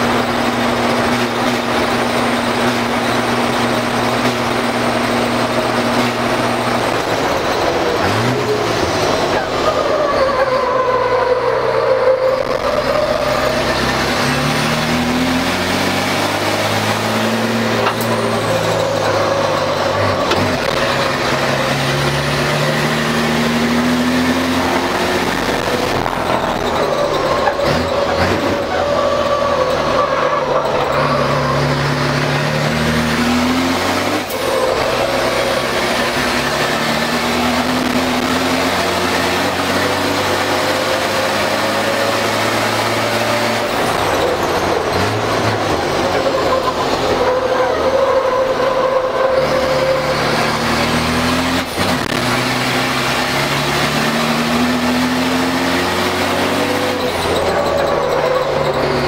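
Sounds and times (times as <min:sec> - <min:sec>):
diesel truck engine accelerating: 0:00.0 - 0:59.0.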